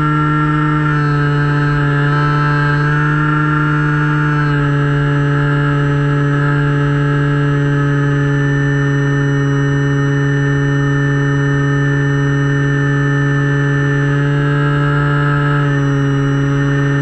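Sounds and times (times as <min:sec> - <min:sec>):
electric motor and propeller humming: 0:00.0 - 0:17.0.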